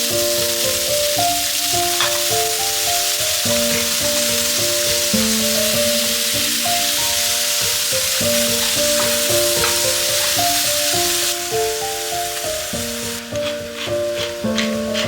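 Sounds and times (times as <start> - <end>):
background music: 0.0 - 15.0
food sizzling in a hot pan: 0.0 - 15.0.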